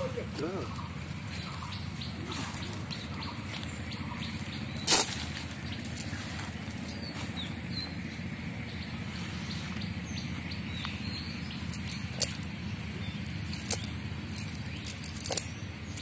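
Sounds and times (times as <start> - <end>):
bird chirps: 0.0 - 16.0
low background rumble: 0.0 - 16.0.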